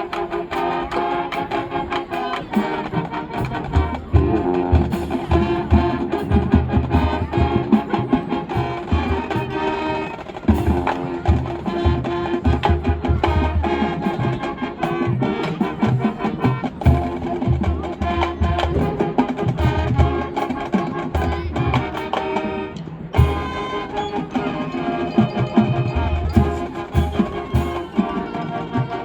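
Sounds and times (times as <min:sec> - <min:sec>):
drums: 0:00.0 - 0:29.0
marching band playing: 0:00.0 - 0:29.0.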